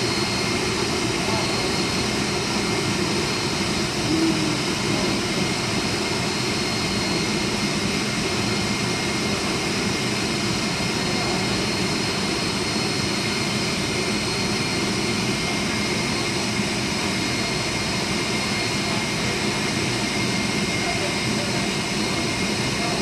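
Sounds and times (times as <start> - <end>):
high-pitched machine whines: 0.0 - 23.0
industrial machinery drone: 0.0 - 23.0.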